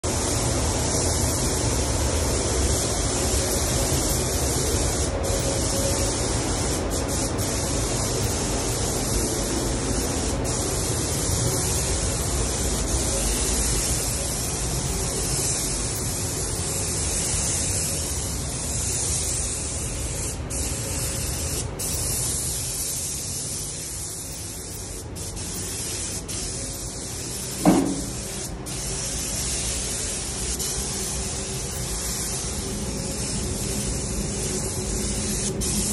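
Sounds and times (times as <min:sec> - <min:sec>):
paint spray gun hissing: 0:00.1 - 0:35.9.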